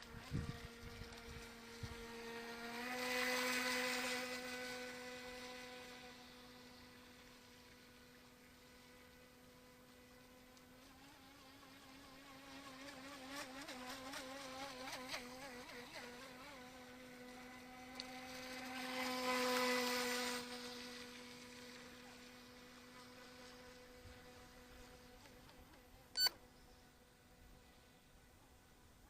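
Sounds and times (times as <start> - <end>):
electric toy boat motor whine: 0.0 - 26.3.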